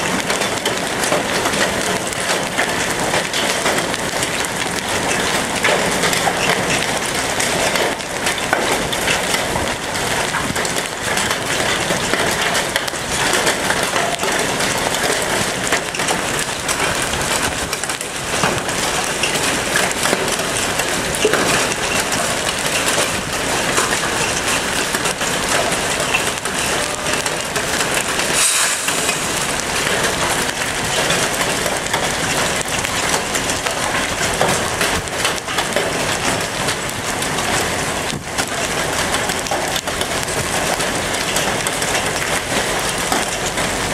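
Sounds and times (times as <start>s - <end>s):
hail and heavy rain: 0.0s - 43.9s
sharp crack: 0.0s - 43.9s.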